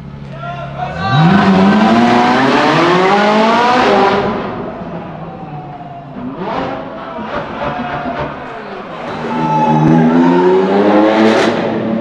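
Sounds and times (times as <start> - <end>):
sports car engine accelerating: 0.9 - 12.0.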